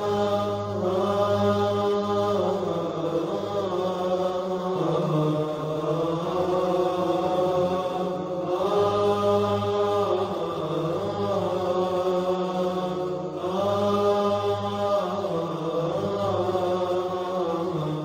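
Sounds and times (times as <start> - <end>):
person chanting long notes: 0.0 - 18.0.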